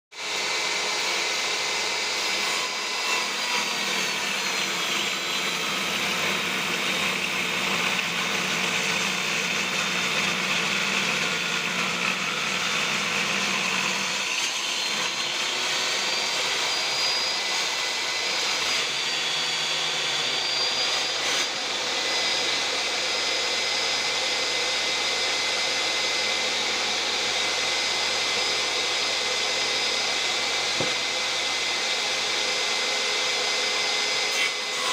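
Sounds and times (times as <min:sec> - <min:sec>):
saw blade whine: 0:00.2 - 0:34.9
wood saw running: 0:00.2 - 0:34.9.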